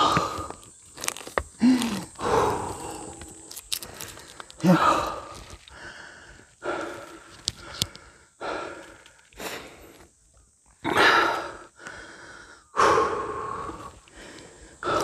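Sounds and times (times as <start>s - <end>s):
heavy breathing: 0.0s - 0.7s, 1.5s - 10.1s, 10.9s - 15.0s.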